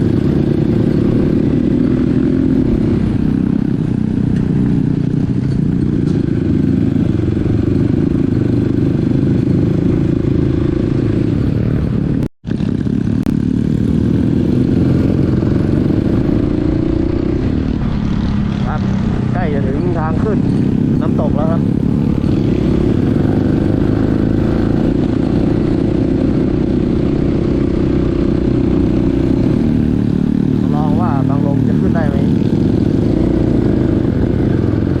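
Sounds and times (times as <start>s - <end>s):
dirt bike engine running: 0.0s - 35.0s.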